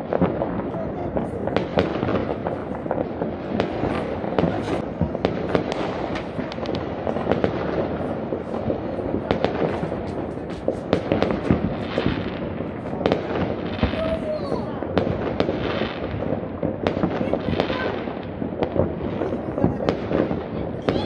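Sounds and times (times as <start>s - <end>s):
firecracker sharp cracks: 0.0s - 21.0s
fireworks bangs: 0.0s - 21.0s.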